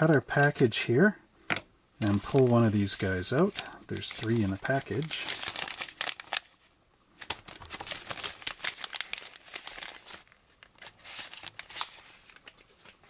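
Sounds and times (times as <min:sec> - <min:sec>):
plastic bag crinkling: 0:02.0 - 0:13.0.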